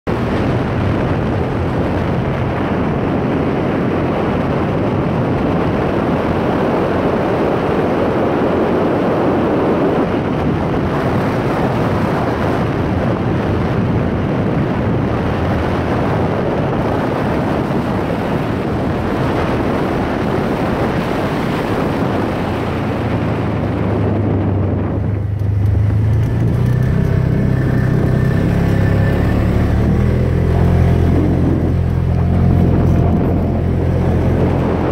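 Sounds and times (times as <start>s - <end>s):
off-road vehicle engine: 0.0s - 34.9s
wind noise: 0.0s - 34.9s.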